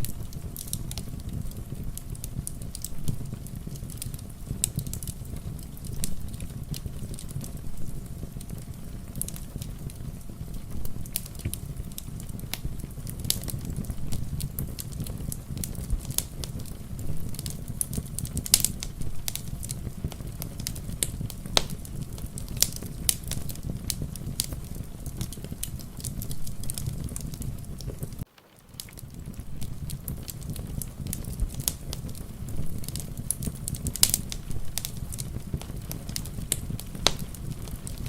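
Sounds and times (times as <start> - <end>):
rain: 0.0 - 38.0
wood fire crackling and popping: 0.0 - 38.0.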